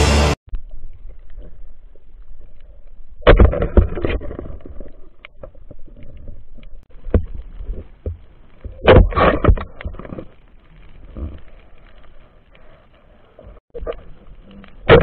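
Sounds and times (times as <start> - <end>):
water swishing and bubbling: 0.5 - 15.0.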